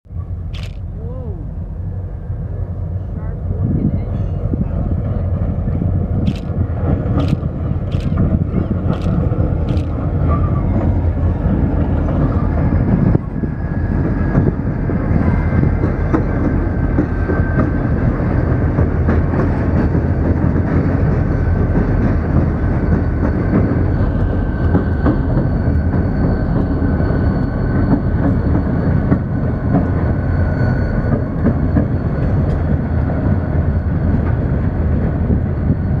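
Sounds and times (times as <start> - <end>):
freight train rumbling past: 0.1 - 36.0.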